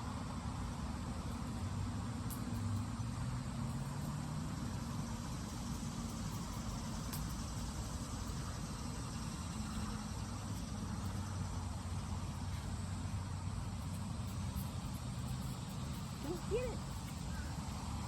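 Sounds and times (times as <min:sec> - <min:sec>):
outdoor hiss: 0:00.0 - 0:18.0
steady low hum: 0:00.0 - 0:18.0.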